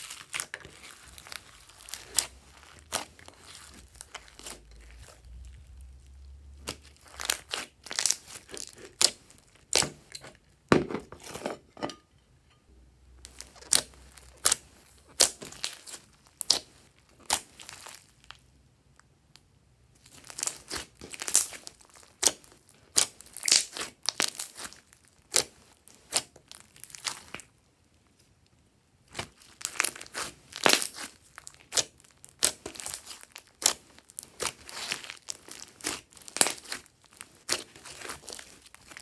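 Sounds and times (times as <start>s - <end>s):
hands squeezing sticky slime: 0.0s - 10.0s, 13.2s - 18.4s, 20.0s - 27.5s, 29.1s - 39.0s.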